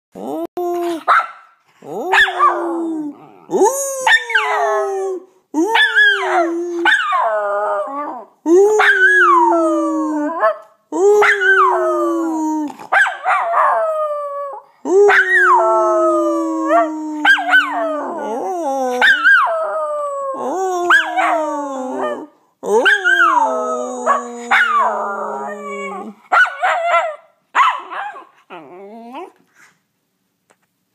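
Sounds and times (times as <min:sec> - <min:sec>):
dog howling: 0:01.8 - 0:10.6, 0:11.2 - 0:29.4.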